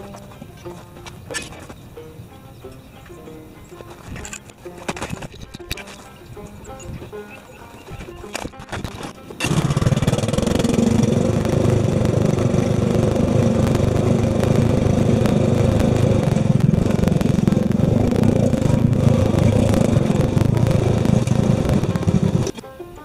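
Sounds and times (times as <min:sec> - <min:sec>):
light clatter: 0:00.0 - 0:22.7
tires on gravel: 0:00.0 - 0:22.8
lawn tractor engine running: 0:00.0 - 0:23.0.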